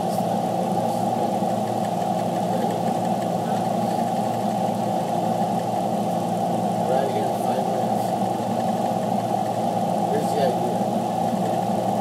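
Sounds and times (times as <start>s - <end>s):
car engine drone from cabin: 0.0s - 12.0s.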